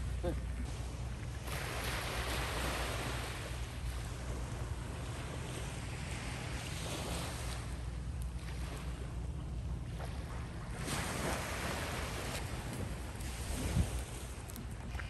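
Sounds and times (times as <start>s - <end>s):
small waves washing on shore: 0.0s - 15.0s
wind rumbling on microphone: 0.0s - 15.0s.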